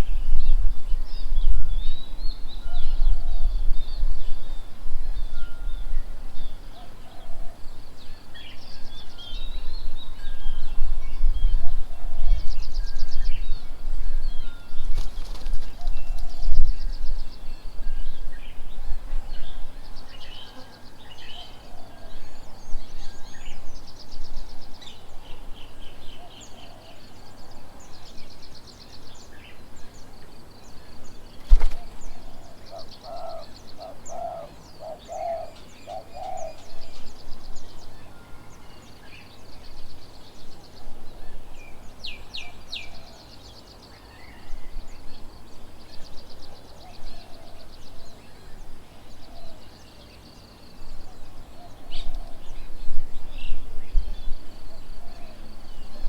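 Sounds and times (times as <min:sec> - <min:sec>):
birds trilling chirps: 0:00.0 - 0:56.0
low evenly spaced bird notes: 0:00.0 - 0:56.0.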